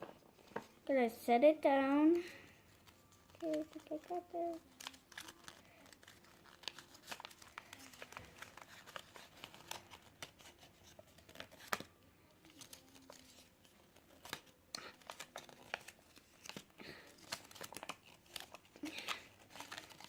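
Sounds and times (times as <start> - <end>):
packaging crinkling and tearing: 2.4 - 20.0.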